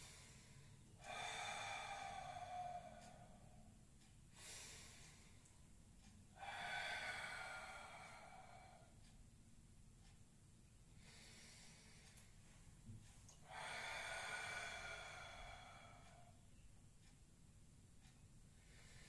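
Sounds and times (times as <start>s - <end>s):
man breathing slowly: 0.0s - 9.2s, 10.9s - 17.1s, 18.0s - 19.0s.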